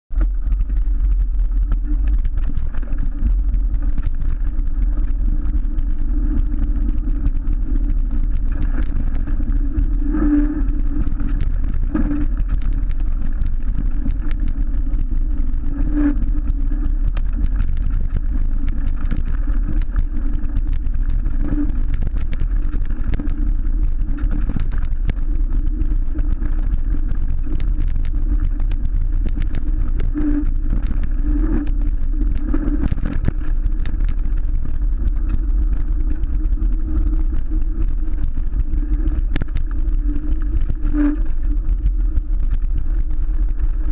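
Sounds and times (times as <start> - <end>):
wind and tyre rumble: 0.1 - 43.9.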